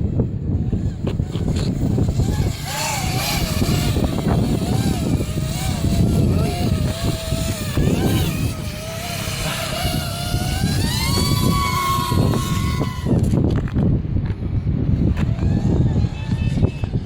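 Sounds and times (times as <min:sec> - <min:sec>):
drone motors whining: 0:00.0 - 0:17.0
wind rumbling on microphone: 0:00.0 - 0:17.0.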